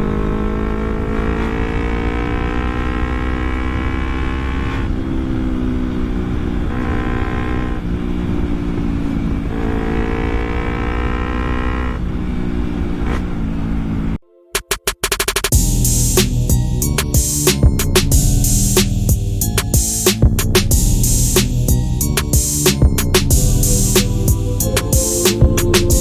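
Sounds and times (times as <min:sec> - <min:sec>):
motorcycle engine revving: 0:00.0 - 0:14.2, 0:15.5 - 0:26.0.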